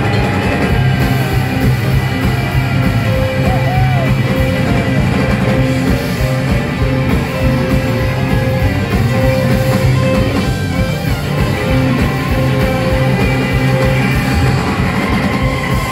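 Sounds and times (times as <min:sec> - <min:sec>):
blues-rock band playing: 0:00.0 - 0:15.9.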